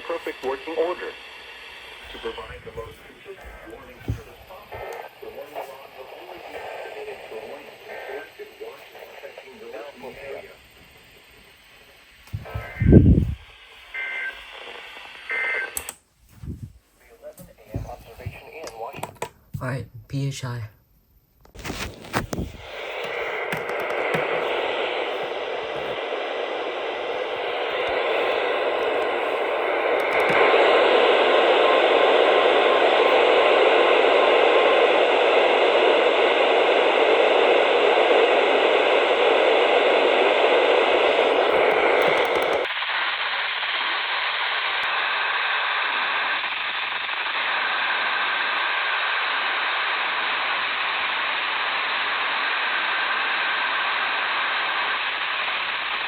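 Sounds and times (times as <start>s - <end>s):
radio static hiss: 0.0s - 20.7s, 21.5s - 56.0s.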